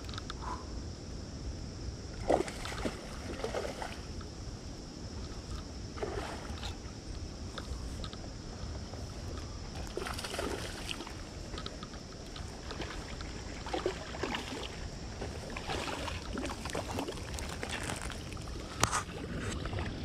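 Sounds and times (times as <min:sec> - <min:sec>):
wind rumble on microphone: 0:00.0 - 0:20.0
water sloshing and splashing: 0:02.2 - 0:04.2, 0:05.2 - 0:20.0.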